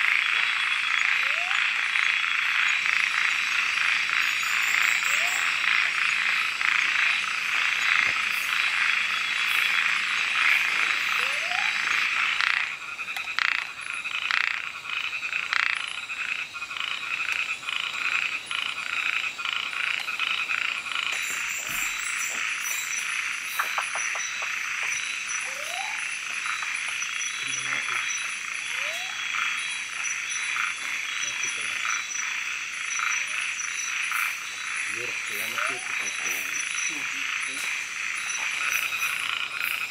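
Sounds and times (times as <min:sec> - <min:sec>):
frogs calling in chorus: 0:00.0 - 0:39.9.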